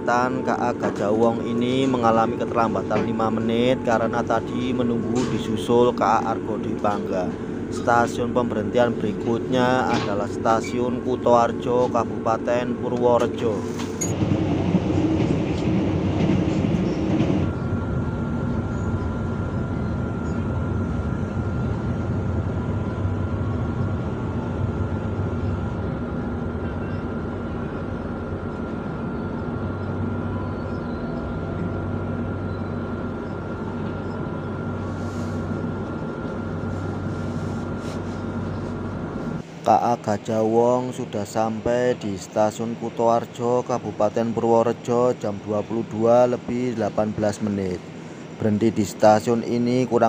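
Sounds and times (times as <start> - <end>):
faint high whine: 0.0 - 14.2, 16.8 - 50.0
train rumbling: 0.0 - 50.0.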